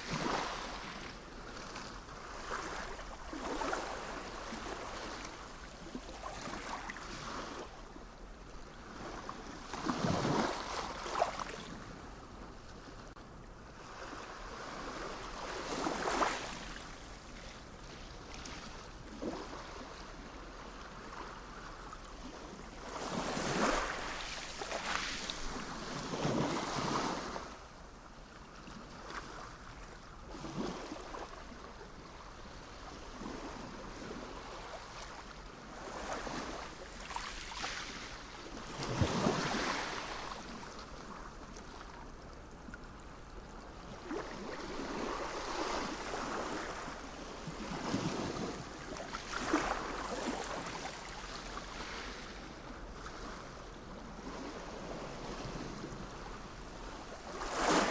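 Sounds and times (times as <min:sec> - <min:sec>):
sea waves breaking on shore: 0:00.0 - 0:27.8, 0:28.6 - 0:57.9.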